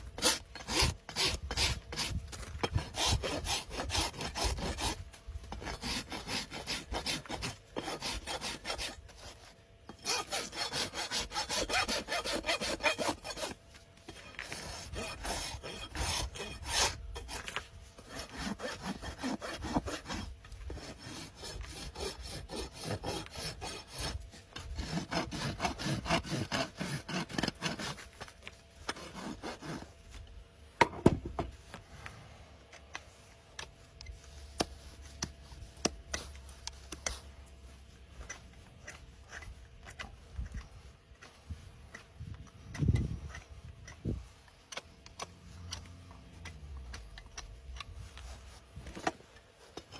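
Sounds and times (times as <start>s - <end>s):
rasp filing a hoof: 0.0s - 31.8s, 32.9s - 49.9s.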